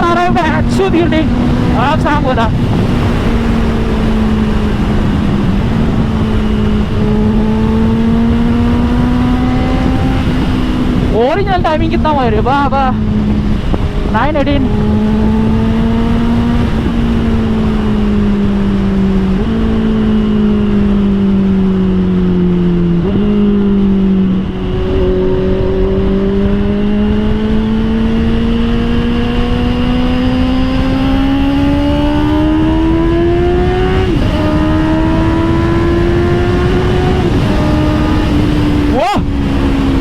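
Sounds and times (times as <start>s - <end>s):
motorcycle engine revving: 0.0s - 40.0s
wind noise: 0.0s - 40.0s.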